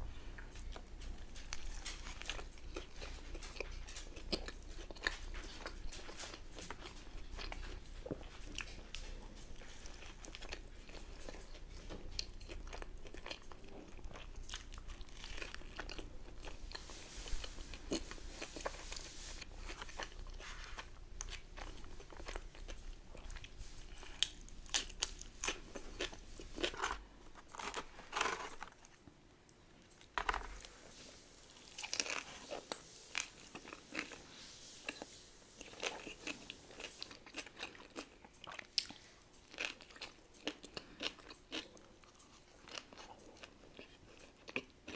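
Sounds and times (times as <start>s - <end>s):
chewing crunchy fried food: 0.1s - 44.9s.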